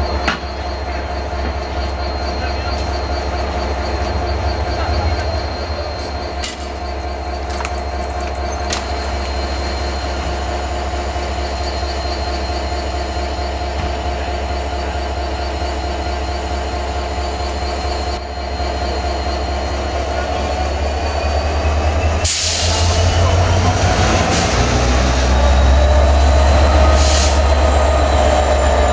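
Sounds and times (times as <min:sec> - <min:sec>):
diesel locomotive idling: 0:00.0 - 0:28.9.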